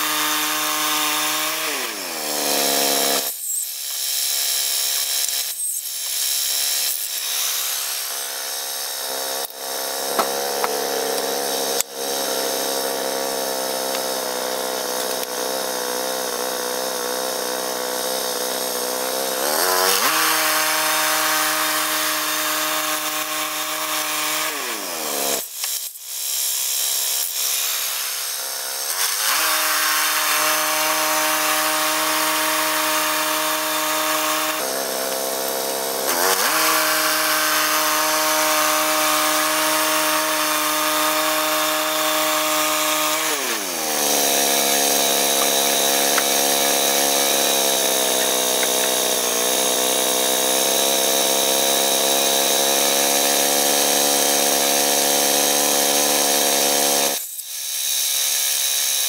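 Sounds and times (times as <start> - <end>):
band blade cutting log: 0.0 - 59.0
small gasoline engine running: 0.0 - 59.0.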